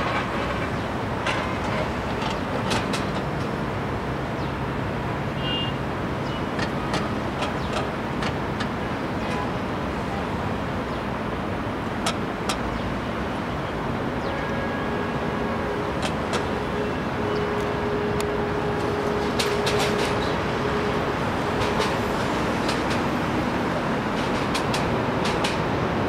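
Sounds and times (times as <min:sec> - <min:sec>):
train wheels on rail: 0:00.0 - 0:04.5, 0:06.2 - 0:10.4, 0:11.6 - 0:13.0, 0:14.9 - 0:26.0.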